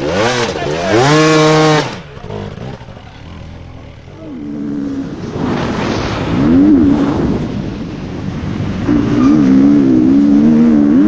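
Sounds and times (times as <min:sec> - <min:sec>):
dirt bike engine revving: 0:00.0 - 0:07.6, 0:08.8 - 0:11.0.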